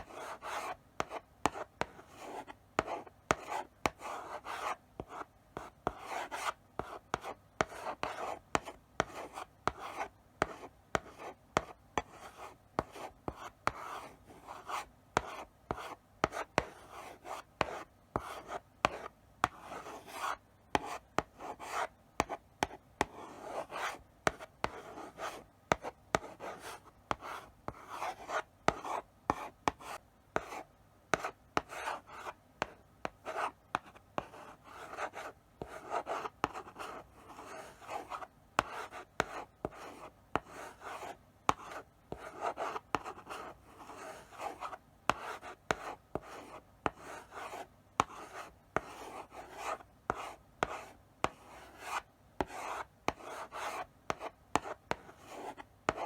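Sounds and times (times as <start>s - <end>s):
chalk scratching on a blackboard: 0.0s - 56.0s
chalk tapping on a board: 0.0s - 56.0s.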